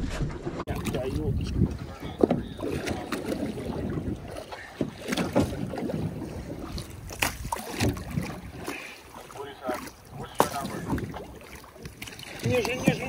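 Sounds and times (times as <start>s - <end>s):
wind buffeting microphone: 0.0s - 8.7s, 10.0s - 13.0s
water washing against boat: 0.0s - 13.0s.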